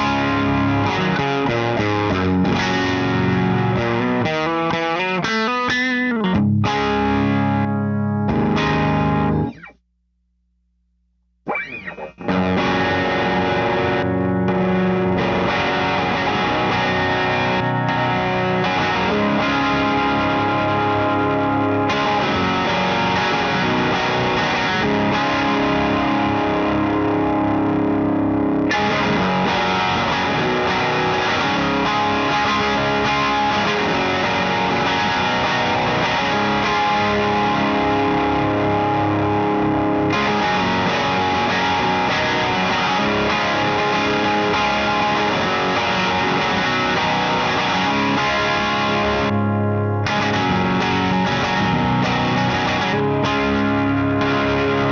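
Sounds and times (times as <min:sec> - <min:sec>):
overdriven electric guitar: 0:00.0 - 0:09.8, 0:11.4 - 0:54.9.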